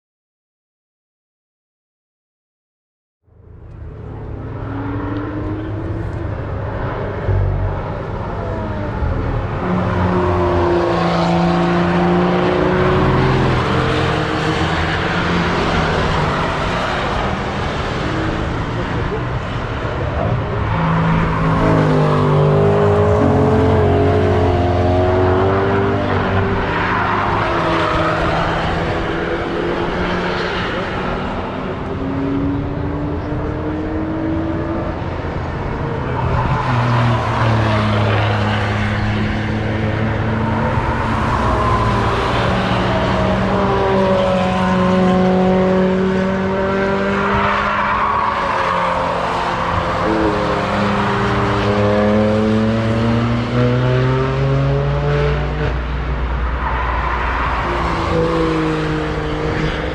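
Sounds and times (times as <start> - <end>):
car engines accelerating: 3.4 - 59.9.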